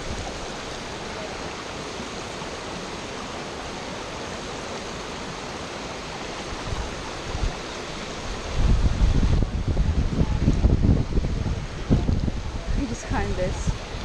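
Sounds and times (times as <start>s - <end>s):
stream running over rocks: 0.0s - 14.0s
waterfall rushing: 0.0s - 14.0s.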